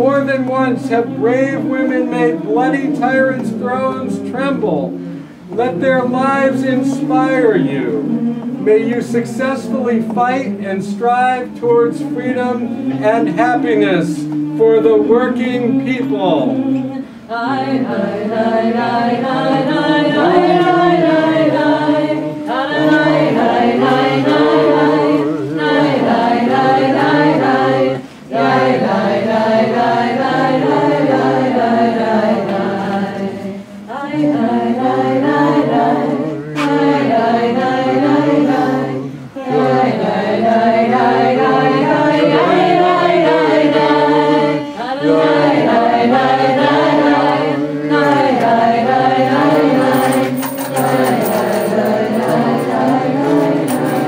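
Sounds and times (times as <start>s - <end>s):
group singing unaccompanied: 0.0s - 54.0s.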